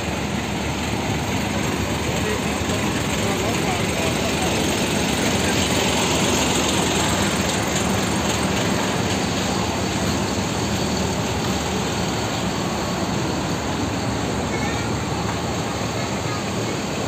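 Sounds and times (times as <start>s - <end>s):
bus engine running: 0.0s - 17.0s.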